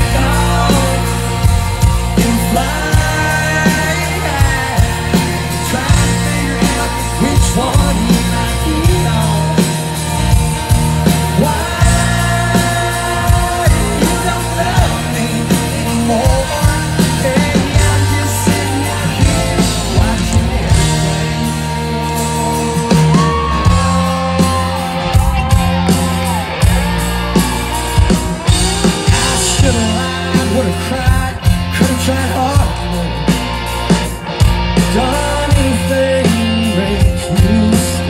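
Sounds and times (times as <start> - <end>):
man singing: 0.0 - 33.7, 34.7 - 38.0
drum beat: 0.0 - 37.9
live country band playing: 0.0 - 38.0.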